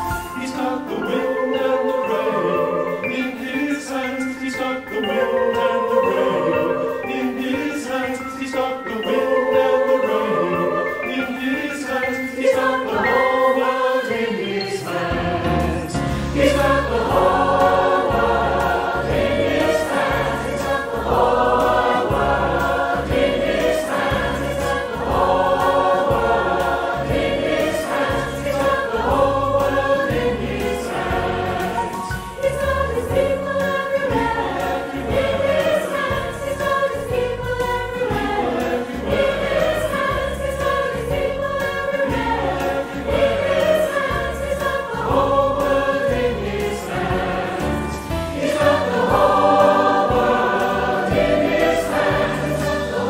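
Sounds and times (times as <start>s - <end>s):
mixed choir singing: 0.0s - 53.0s.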